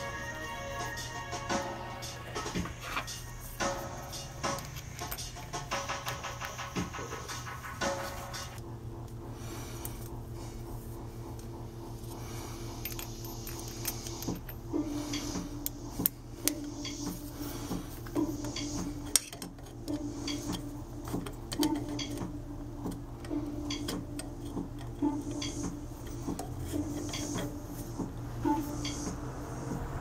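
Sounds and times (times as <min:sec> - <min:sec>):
machine motor running: 0:00.0 - 0:30.0.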